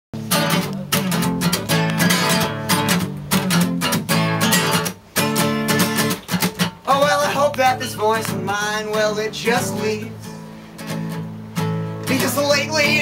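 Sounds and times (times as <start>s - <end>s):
acoustic guitar strumming: 0.2s - 13.0s.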